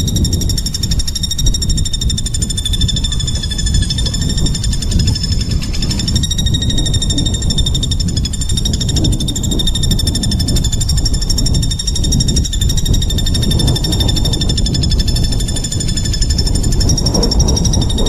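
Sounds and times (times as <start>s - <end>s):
low rumble: 0.0s - 18.0s
songbird buzzing trill: 0.0s - 18.0s.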